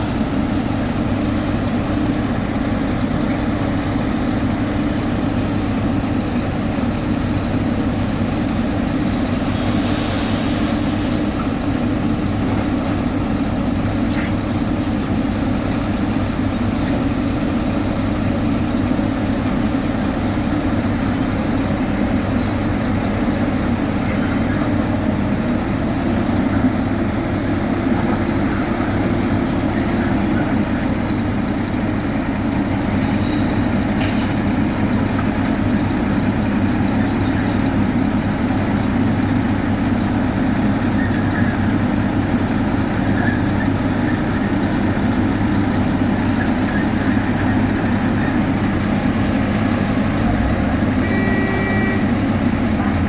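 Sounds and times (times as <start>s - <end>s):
diesel machinery engine drone: 0.0s - 53.0s.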